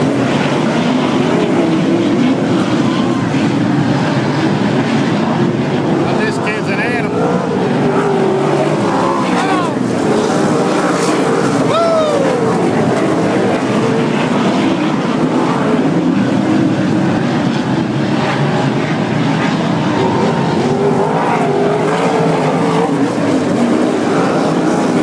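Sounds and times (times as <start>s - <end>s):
race car engines drone: 0.0s - 25.0s.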